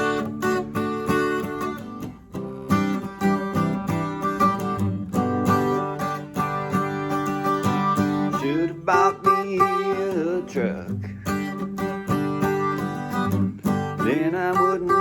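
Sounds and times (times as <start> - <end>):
acoustic guitar strumming: 0.0 - 15.0
sliding guitar melody: 0.0 - 15.0.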